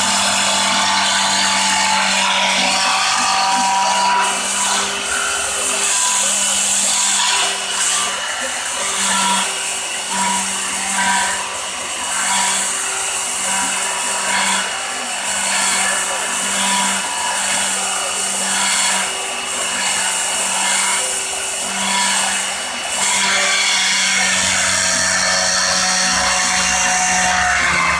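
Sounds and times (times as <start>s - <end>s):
power tool humming: 0.0s - 27.9s.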